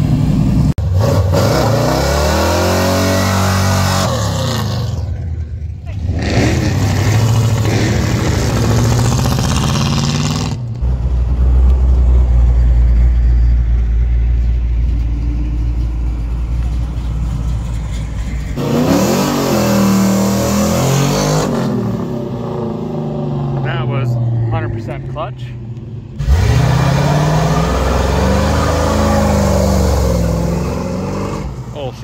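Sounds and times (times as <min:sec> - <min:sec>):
car revving and accelerating: 0:00.0 - 0:05.2, 0:06.0 - 0:13.4, 0:18.6 - 0:32.0
car engines low rumble: 0:00.0 - 0:32.0.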